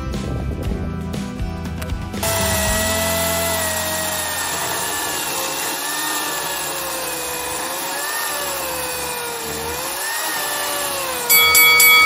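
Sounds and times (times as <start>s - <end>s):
electric chainsaw cutting a log: 2.2s - 12.0s.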